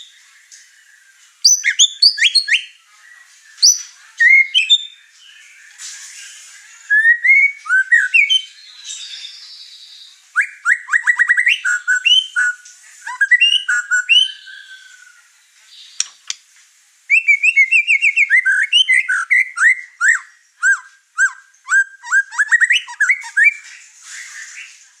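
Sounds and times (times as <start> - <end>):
bird singing whistles and trills: 0.0 - 16.1, 17.1 - 24.8.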